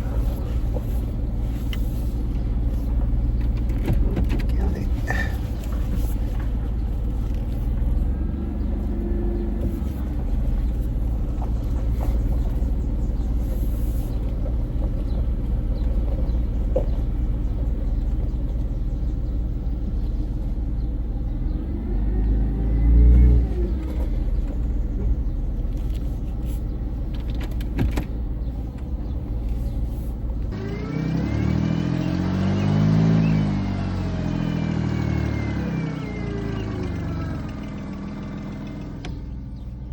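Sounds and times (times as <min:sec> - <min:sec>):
car engine rumbling: 0:00.0 - 0:39.9
road noise: 0:00.0 - 0:39.9.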